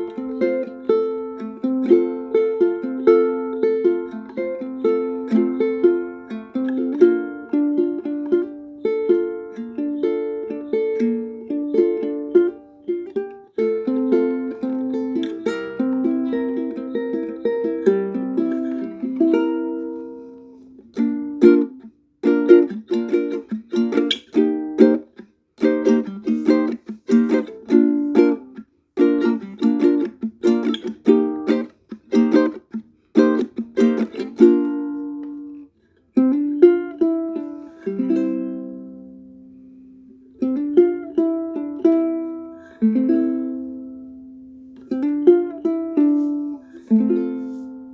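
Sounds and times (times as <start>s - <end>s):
ukulele playing: 0.0s - 47.9s.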